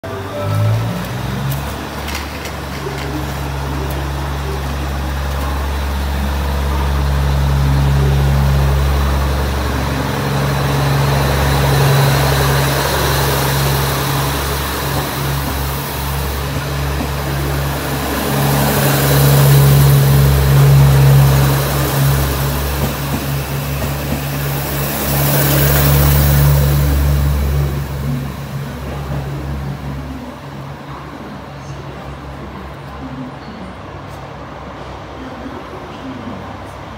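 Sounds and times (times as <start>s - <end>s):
diesel train engine droning: 0.0s - 36.9s
train cars rolling by: 0.0s - 36.9s.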